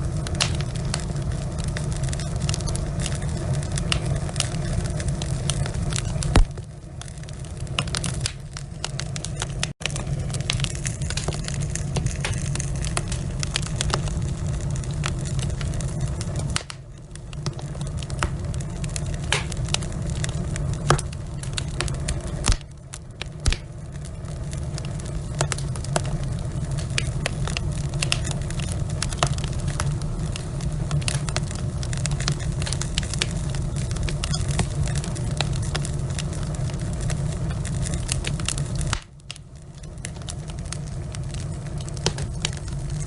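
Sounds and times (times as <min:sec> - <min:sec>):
logs crackling and popping: 0:00.0 - 0:43.0
low rumble of flames: 0:00.0 - 0:43.0.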